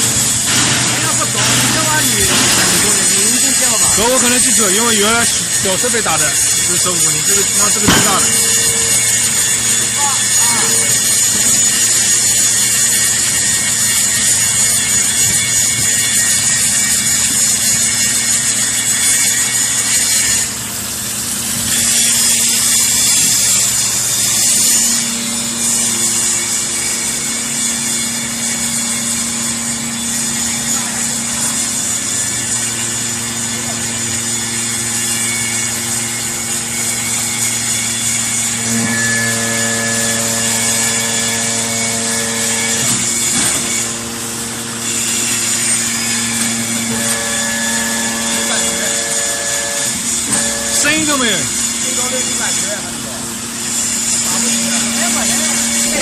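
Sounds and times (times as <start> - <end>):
motor and pump hum: 0.0 - 56.0.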